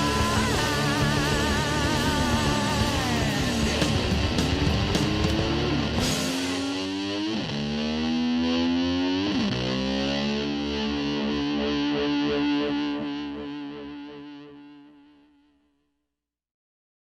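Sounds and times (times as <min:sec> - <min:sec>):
distorted electric guitar: 0:00.0 - 0:15.6.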